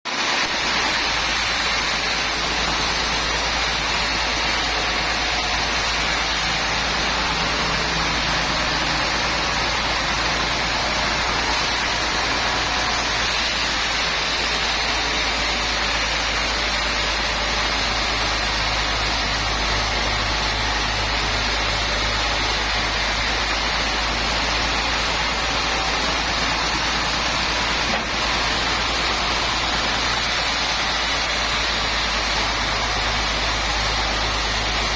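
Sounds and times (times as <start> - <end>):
sawmill machinery running: 0.0 - 34.9.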